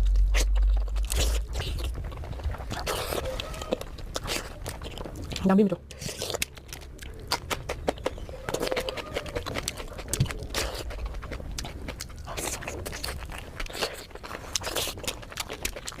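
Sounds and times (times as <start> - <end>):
chewing and mouth sounds: 0.0 - 16.0.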